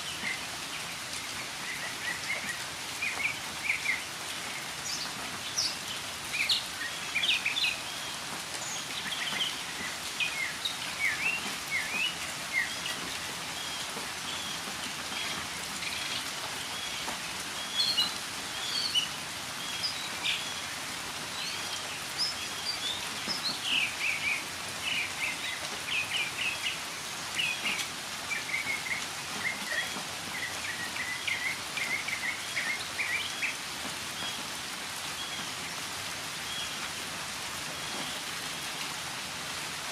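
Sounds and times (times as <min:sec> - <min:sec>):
rainfall: 0:00.0 - 0:39.9.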